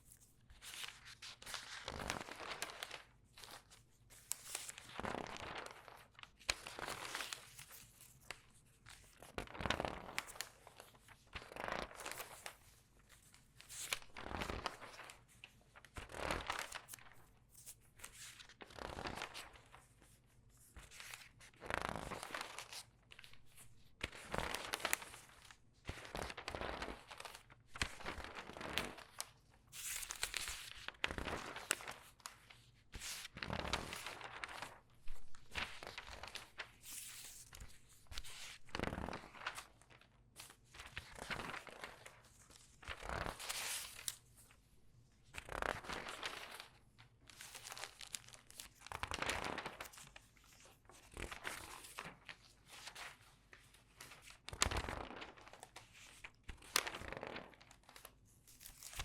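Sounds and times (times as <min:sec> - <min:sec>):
newspaper pages rustling: 0:00.0 - 0:20.2, 0:24.1 - 0:44.4, 0:45.4 - 0:59.0.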